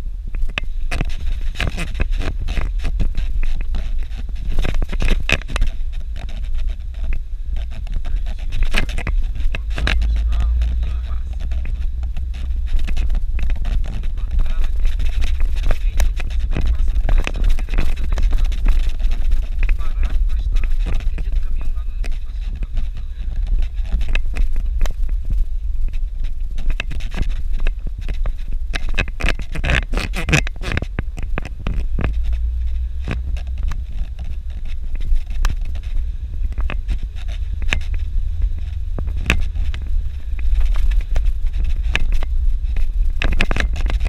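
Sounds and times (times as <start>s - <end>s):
engine and road rumble: 0.0s - 44.0s.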